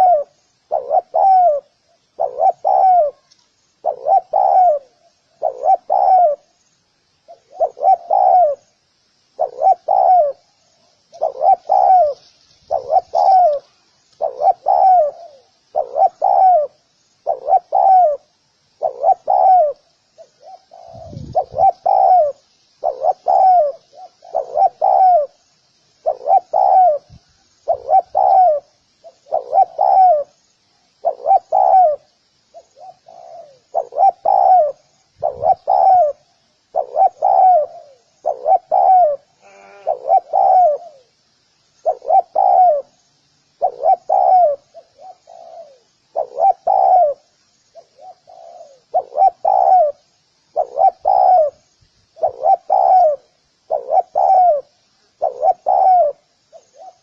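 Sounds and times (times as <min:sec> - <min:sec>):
dove cooing: 0:00.0 - 0:06.6, 0:07.2 - 0:25.4, 0:26.0 - 0:30.4, 0:31.0 - 0:41.2, 0:41.8 - 0:43.0, 0:43.6 - 0:57.0.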